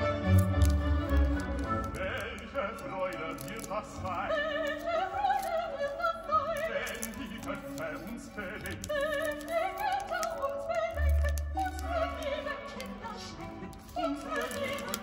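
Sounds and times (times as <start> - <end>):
operatic singing with accompaniment: 1.2 - 15.0.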